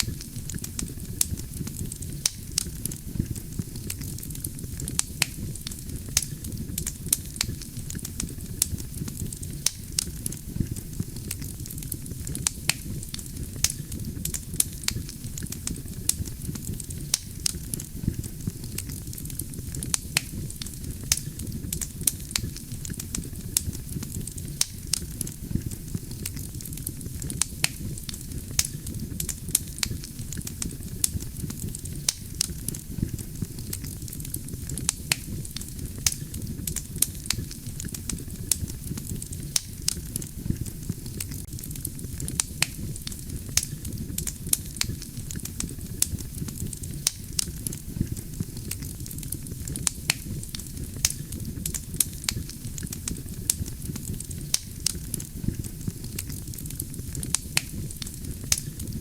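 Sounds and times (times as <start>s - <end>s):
campfire burning: 0.0s - 59.0s
crackles and pops of logs: 0.0s - 59.0s.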